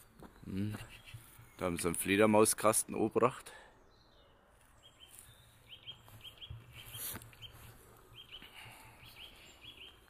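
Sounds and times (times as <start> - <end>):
faint high bird chirps: 0.0 - 2.3, 3.8 - 10.0.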